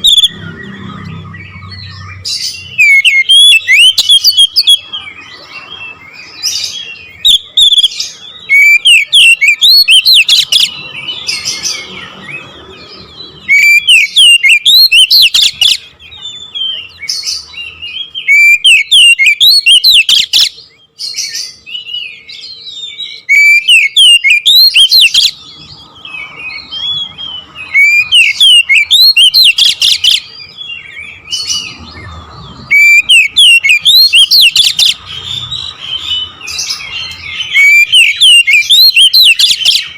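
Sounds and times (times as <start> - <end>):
bird singing sharp chirps and whistles: 0.0 - 39.9
soft bird twittering: 0.0 - 39.9.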